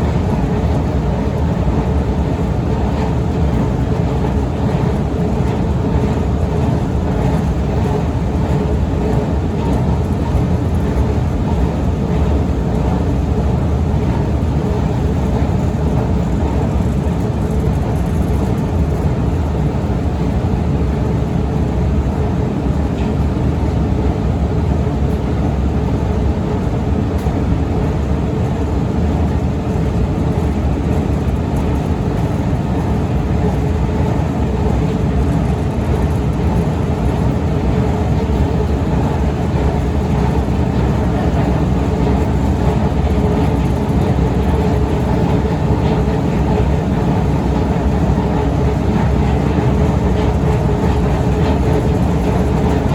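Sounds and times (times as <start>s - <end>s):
escalator rumble and hum: 0.0s - 52.9s.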